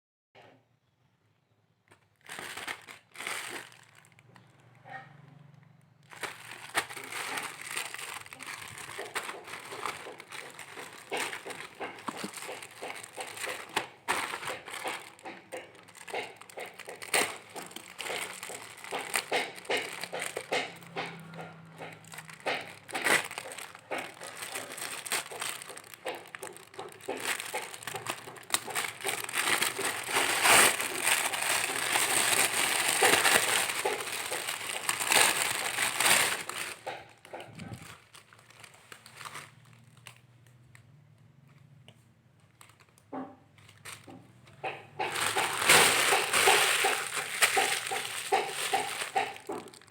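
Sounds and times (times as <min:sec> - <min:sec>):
packaging crinkling and rustling: 0:01.8 - 0:04.6, 0:06.0 - 0:40.9, 0:42.2 - 0:49.9.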